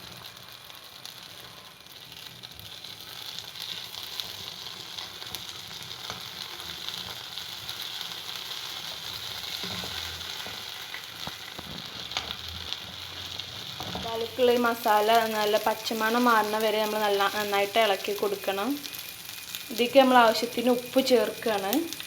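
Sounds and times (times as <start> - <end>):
spice paste sizzling in oil: 0.0 - 22.0.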